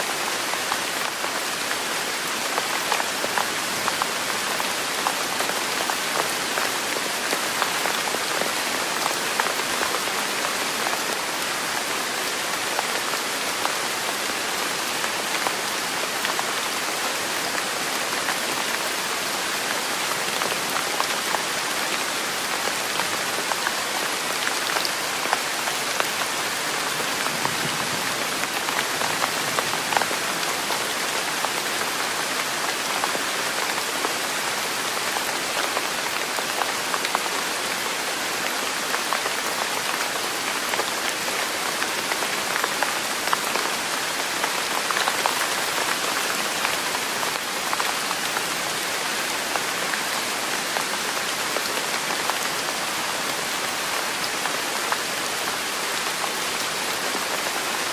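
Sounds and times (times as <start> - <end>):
rain on a hard surface: 0.0 - 57.9.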